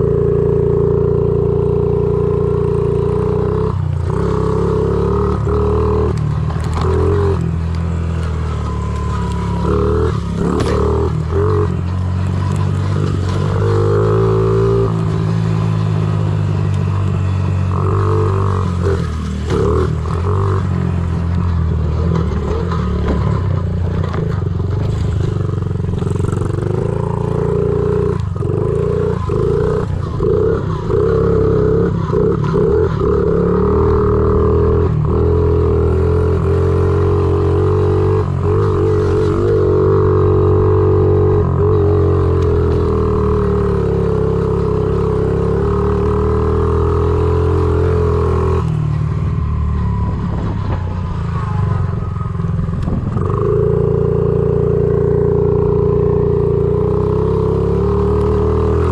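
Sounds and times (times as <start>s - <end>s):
small motorbike engine revving: 0.0s - 58.9s.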